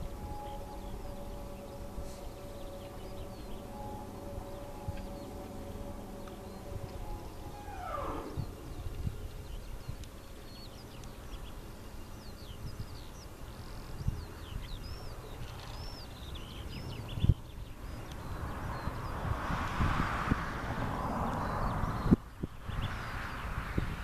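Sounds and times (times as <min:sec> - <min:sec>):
small birds chirping: 0:00.0 - 0:19.5, 0:21.1 - 0:24.0
falling whine: 0:00.0 - 0:22.1
low steady rumble: 0:00.0 - 0:24.0.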